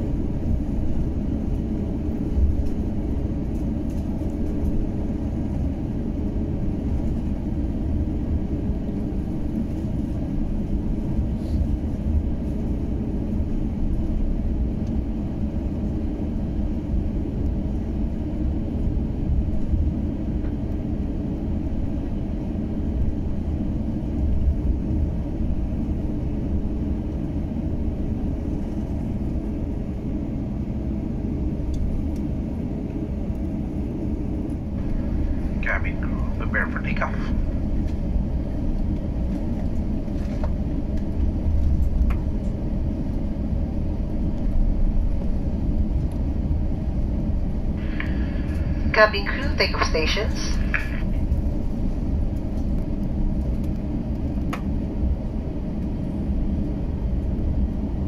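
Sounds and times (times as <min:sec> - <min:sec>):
aircraft cabin rumble: 0:00.0 - 0:58.0.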